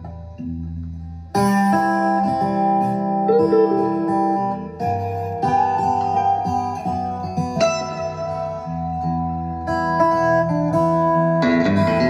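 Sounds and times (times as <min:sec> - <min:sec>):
acoustic guitar music over loudspeaker: 0:00.0 - 0:12.0.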